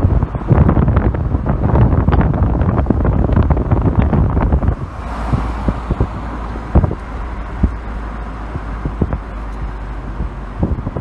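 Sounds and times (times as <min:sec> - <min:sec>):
car road rumble from inside: 0:00.0 - 0:11.0
wind buffeting thumps: 0:00.0 - 0:11.0
wind rushing over microphone: 0:00.0 - 0:11.0.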